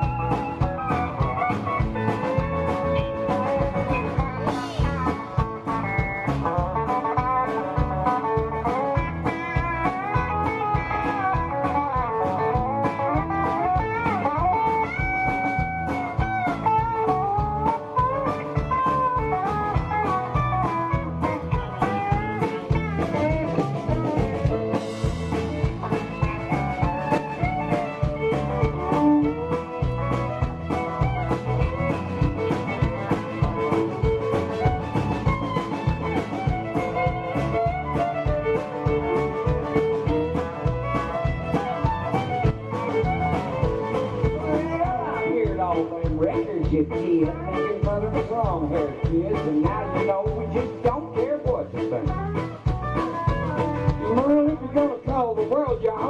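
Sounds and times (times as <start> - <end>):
bass guitar: 0.0 - 56.0
lead guitar solo: 0.0 - 56.0
steady drum beat: 0.0 - 56.0.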